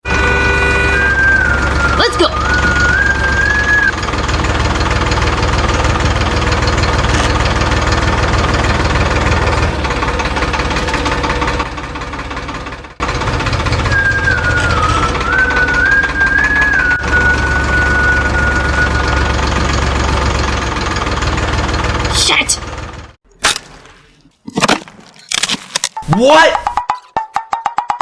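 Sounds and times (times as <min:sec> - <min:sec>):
small tractor engine knocking: 0:00.0 - 0:23.2.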